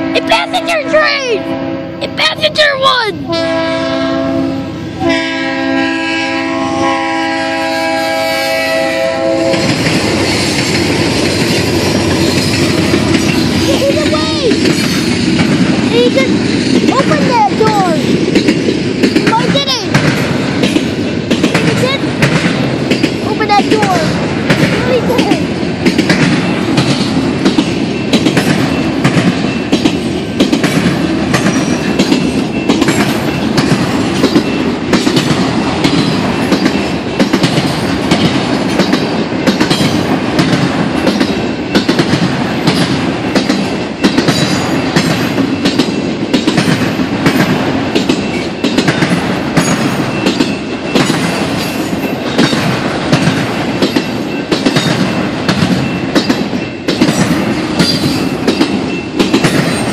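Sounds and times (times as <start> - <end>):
train wheels rumbling on rail: 0.0 - 59.9
wheels clacking over rail joints: 7.6 - 59.9.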